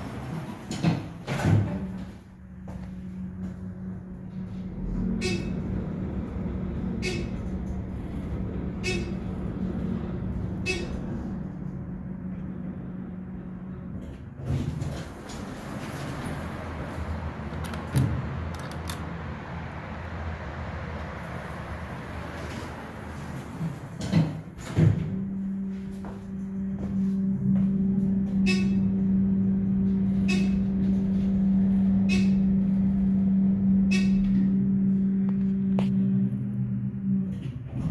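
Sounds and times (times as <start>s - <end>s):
elevator low hum: 0.0s - 37.9s.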